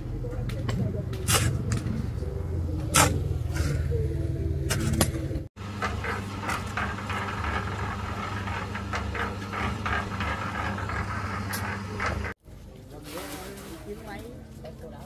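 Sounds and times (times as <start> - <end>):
engine running: 0.0 - 12.4.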